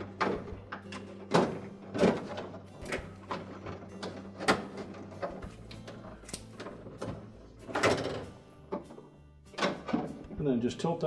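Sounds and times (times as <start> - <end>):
plastic parts knocking: 0.0 - 10.4
plastic scraping: 0.0 - 10.4.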